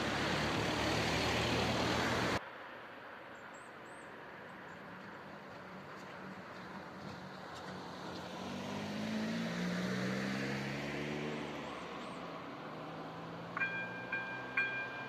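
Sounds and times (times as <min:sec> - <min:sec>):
car driving past on wet road: 0:00.0 - 0:02.4, 0:05.0 - 0:15.0.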